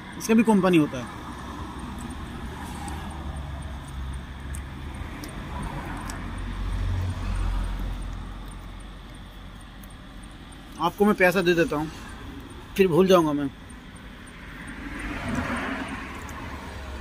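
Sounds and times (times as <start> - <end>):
passing motor vehicle rumble: 0.0 - 17.0.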